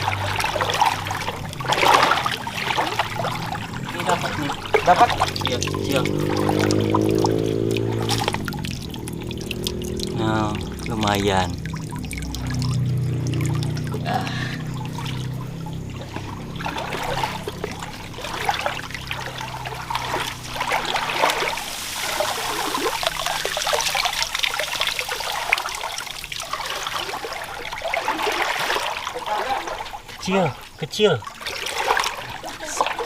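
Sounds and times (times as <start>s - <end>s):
low hum: 0.0s - 28.0s
water trickling and splashing: 0.0s - 33.0s.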